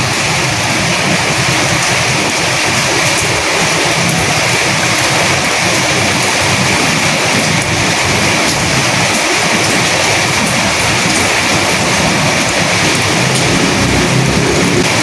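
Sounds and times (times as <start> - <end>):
steady rain with wind: 0.0 - 15.0.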